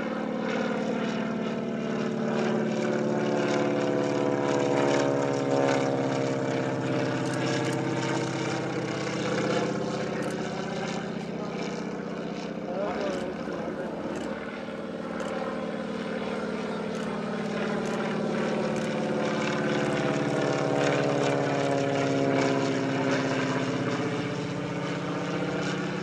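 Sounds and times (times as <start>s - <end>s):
propeller airplane flying past: 0.0s - 26.0s.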